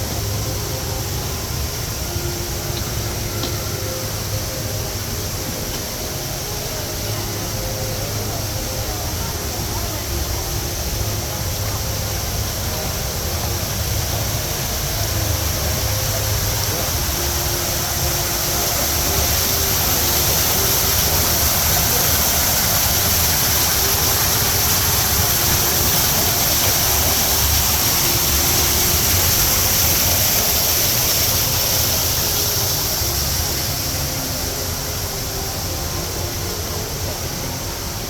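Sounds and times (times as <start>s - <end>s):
indoor waterfall rushing: 0.0s - 38.0s.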